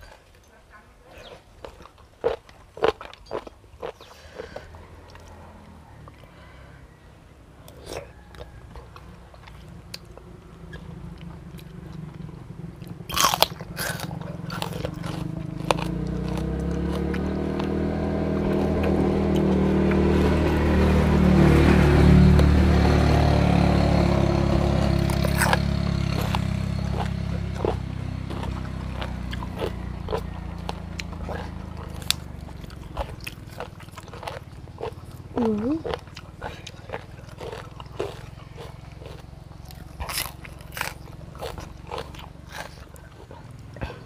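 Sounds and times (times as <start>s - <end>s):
close chewing and biting: 1.1s - 6.4s, 7.6s - 44.0s
low engine hum: 4.3s - 44.0s.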